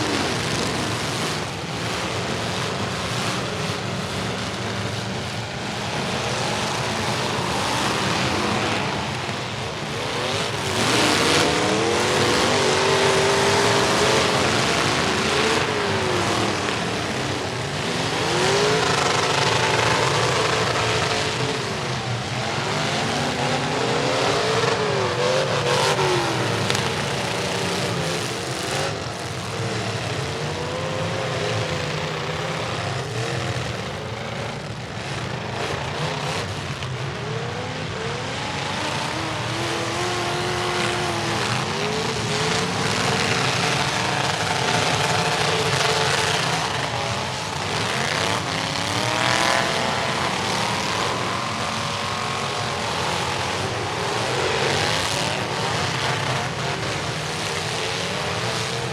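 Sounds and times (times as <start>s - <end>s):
truck engines revving: 0.0s - 58.9s.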